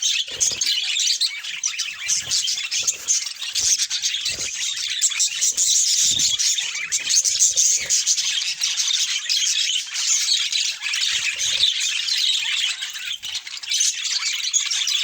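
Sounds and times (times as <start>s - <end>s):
budgerigars chattering: 0.0s - 15.0s.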